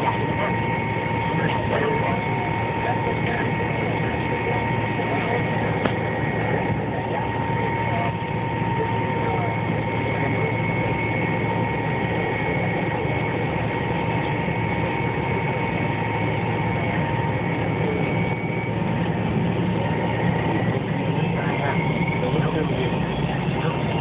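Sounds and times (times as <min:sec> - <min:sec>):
airliner cabin rumble: 0:00.0 - 0:24.0
thin jet engine whines: 0:00.0 - 0:24.0.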